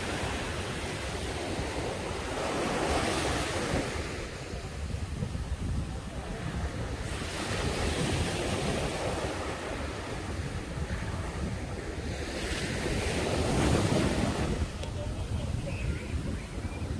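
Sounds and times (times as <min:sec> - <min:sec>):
waves washing up a beach: 0:00.0 - 0:16.9
wind buffeting microphone: 0:00.0 - 0:16.9.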